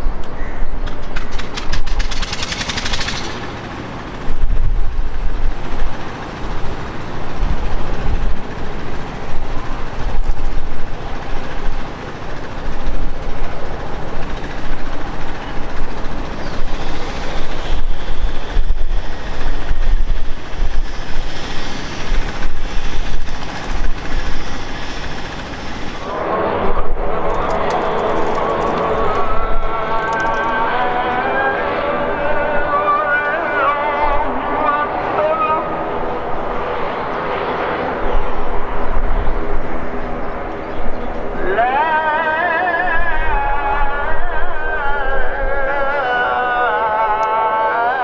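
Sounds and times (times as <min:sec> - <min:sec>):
high engine whine: 0:00.0 - 0:48.0
jet engines rumbling: 0:00.0 - 0:48.0.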